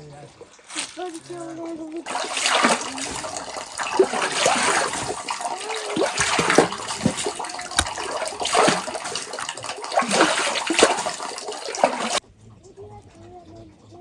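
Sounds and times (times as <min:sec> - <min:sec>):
water splashing and trickling: 0:00.5 - 0:12.2.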